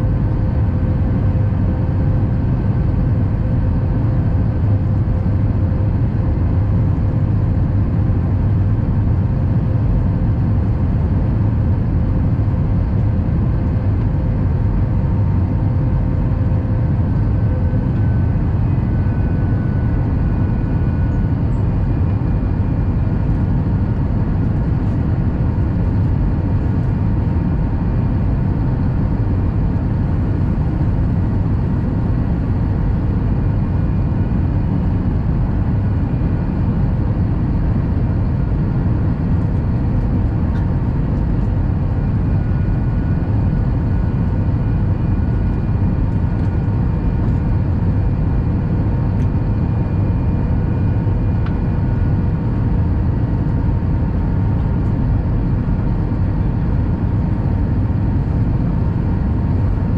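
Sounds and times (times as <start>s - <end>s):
jet cabin rumble: 0.0s - 59.9s
jet engine whine: 0.0s - 59.9s.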